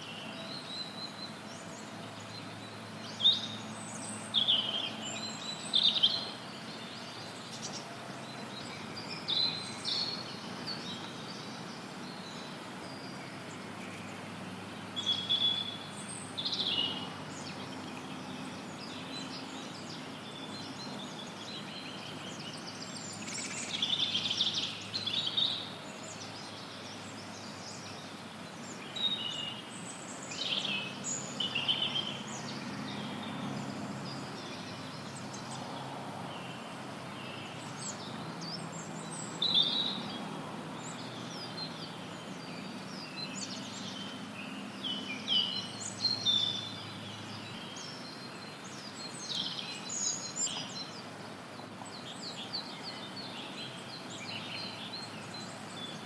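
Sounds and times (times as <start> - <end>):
songbirds chirping and singing: 0.0 - 56.0
white noise hiss: 0.0 - 56.0.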